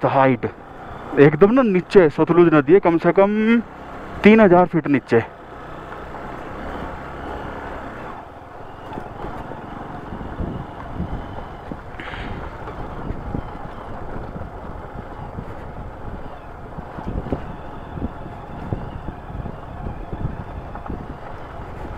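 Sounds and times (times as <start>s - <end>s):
motorcycle engine running low: 0.5s - 21.9s.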